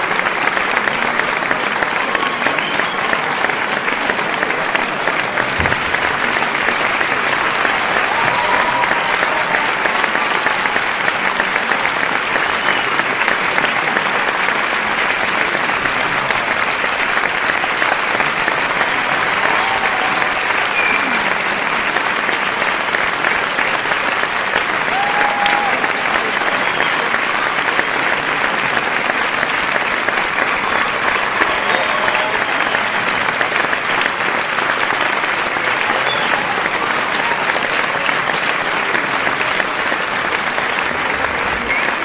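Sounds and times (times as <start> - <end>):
large crowd applauding: 0.0 - 42.0.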